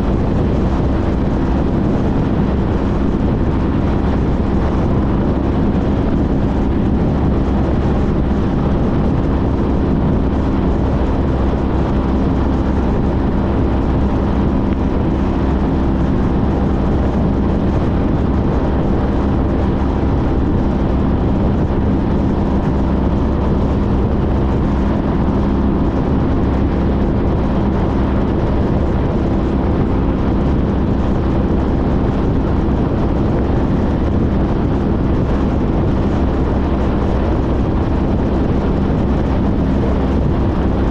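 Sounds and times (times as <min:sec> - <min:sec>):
wind rushing: 0:00.0 - 0:40.9.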